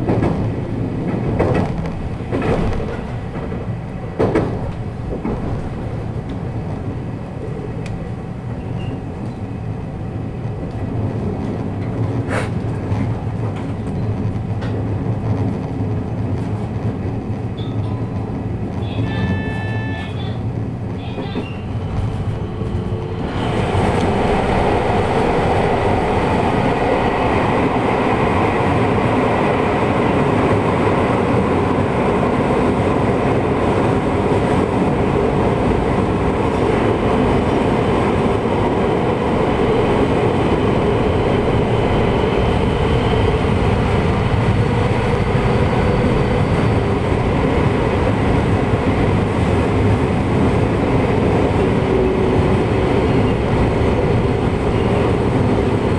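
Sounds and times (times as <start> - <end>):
train rushing in tunnel: 0.0 - 55.9.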